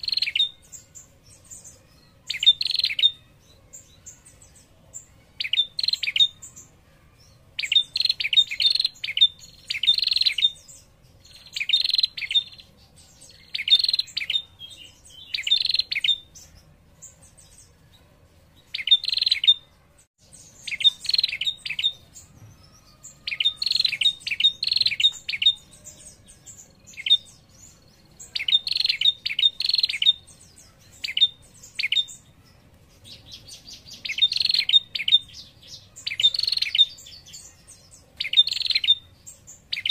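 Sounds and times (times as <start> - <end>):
bird chattering trill: 0.0 - 3.4, 5.3 - 6.8, 7.6 - 17.2, 18.7 - 19.6, 20.5 - 22.4, 23.0 - 32.2, 33.0 - 39.9.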